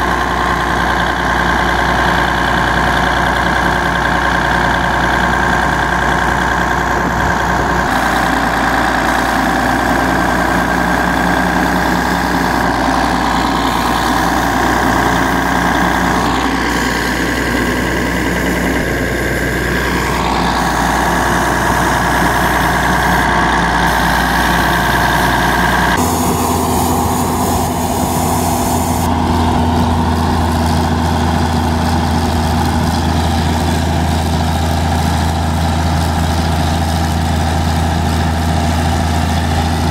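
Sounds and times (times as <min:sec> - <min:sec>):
compressor running: 0:00.0 - 0:33.6
drilling rig machinery running: 0:00.0 - 0:39.9.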